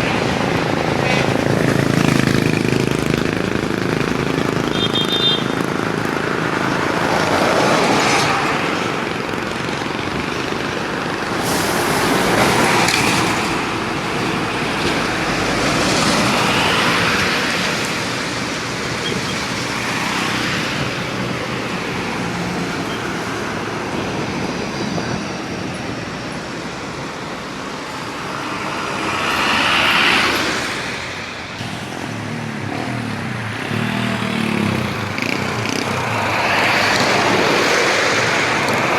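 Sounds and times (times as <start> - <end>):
road traffic passing: 0.0 - 38.9.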